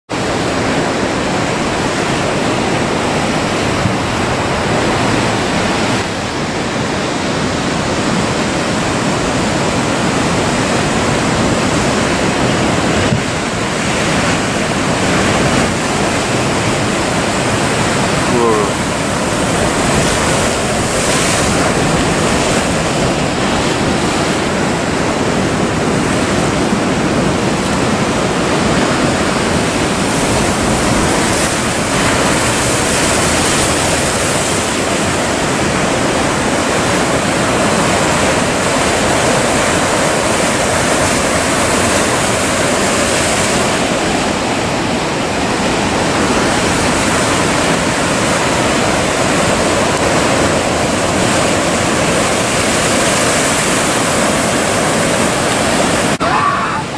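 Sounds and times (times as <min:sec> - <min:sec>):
waves crashing against wall: 0:00.1 - 0:56.9
whitewater churning: 0:00.1 - 0:56.9.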